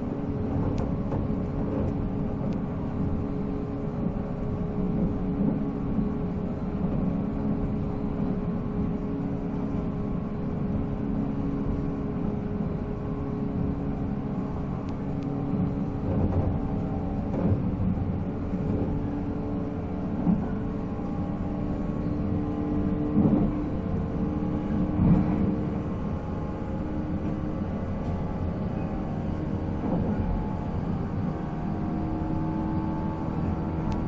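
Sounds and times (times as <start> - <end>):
electric train motor hum and whine: 0.0 - 34.0
train running gear rumble: 0.0 - 34.0.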